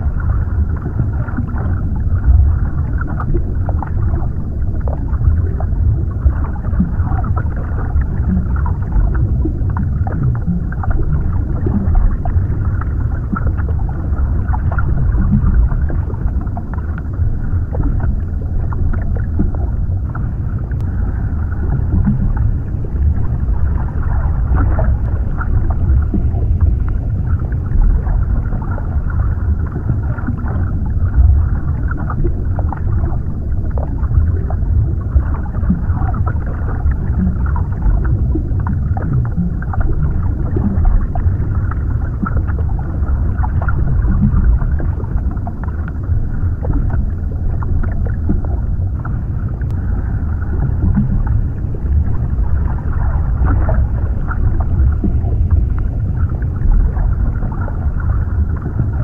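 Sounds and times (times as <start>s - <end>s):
muffled underwater rumble: 0.0s - 59.0s
small underwater crackles and pops: 0.0s - 59.0s.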